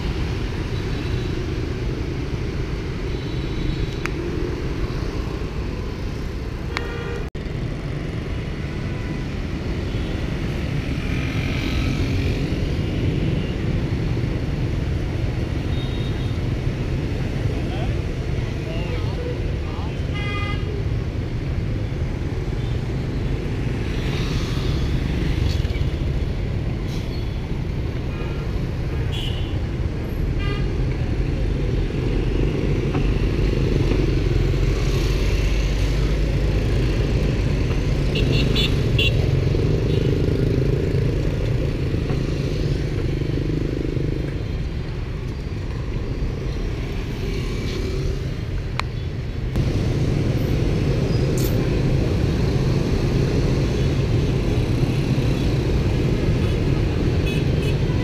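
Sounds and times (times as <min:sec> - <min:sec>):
cars passing: 0:00.0 - 0:15.6, 0:20.9 - 0:28.9, 0:29.6 - 0:58.0
motorbike and scooter engines: 0:00.0 - 0:58.0.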